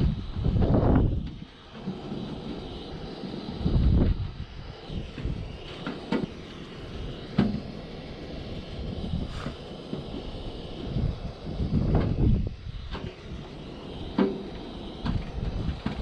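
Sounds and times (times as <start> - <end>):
gas burner hissing: 0.0 - 16.0.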